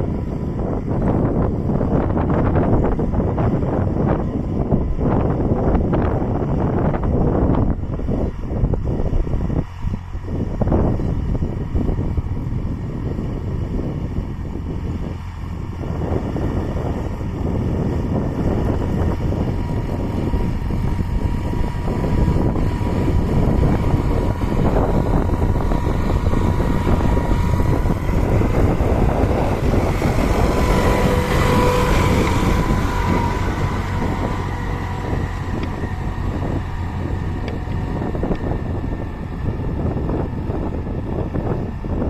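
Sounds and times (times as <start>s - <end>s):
tractor engine running: 0.0s - 42.0s.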